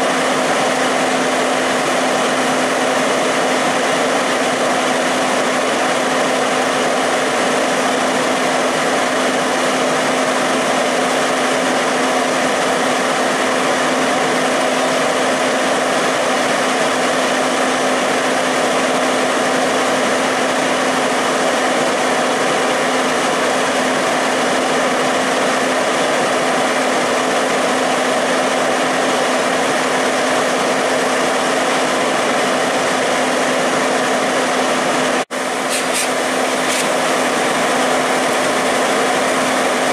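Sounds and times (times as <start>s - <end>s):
fire engine running: 0.0s - 39.9s.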